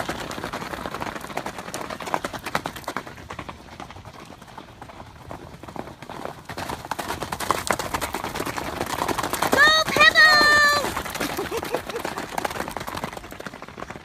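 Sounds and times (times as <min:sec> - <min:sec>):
horses galloping hoofbeats: 0:00.0 - 0:14.0.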